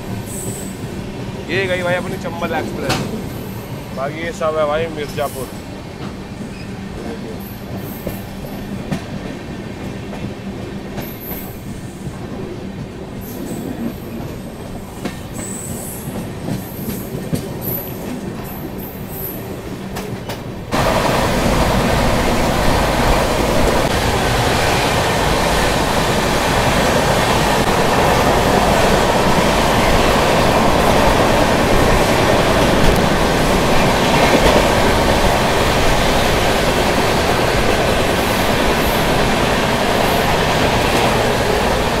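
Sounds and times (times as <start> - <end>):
train wheels rumbling on track: 0.0 - 42.0.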